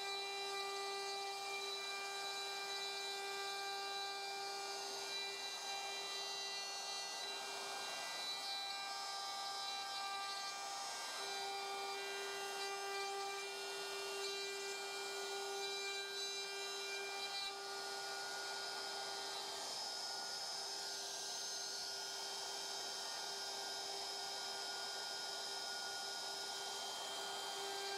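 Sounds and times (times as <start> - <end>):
router whining cutting wood: 0.0 - 27.9.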